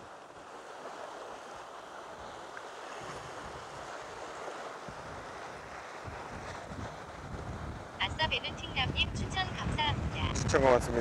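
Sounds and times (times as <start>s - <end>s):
waves washing on rocky shore: 0.0s - 10.2s
wind gusting on microphone: 2.0s - 11.0s.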